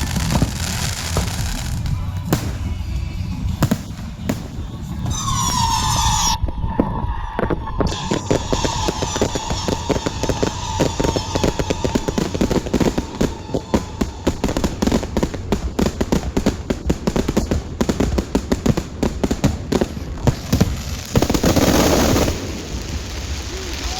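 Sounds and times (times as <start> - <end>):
fireworks crackling: 0.0 - 23.9
fireworks rushing burst: 0.0 - 23.9.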